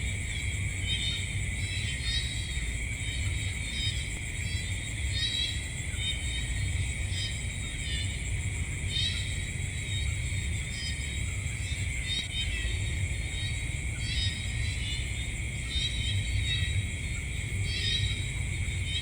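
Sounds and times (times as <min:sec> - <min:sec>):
insects trilling: 0:00.0 - 0:19.0
insect chirps: 0:00.1 - 0:19.0.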